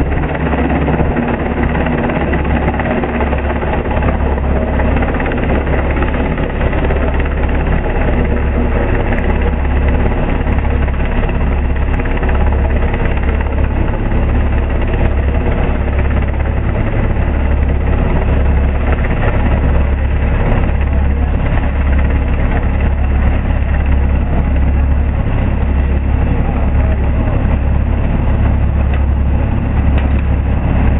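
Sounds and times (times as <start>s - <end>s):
helicopter hovering: 0.0s - 30.9s.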